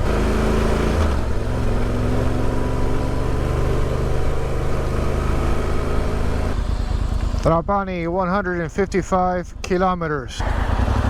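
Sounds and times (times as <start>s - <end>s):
motorcycle engine running: 0.0s - 9.0s, 10.4s - 11.0s.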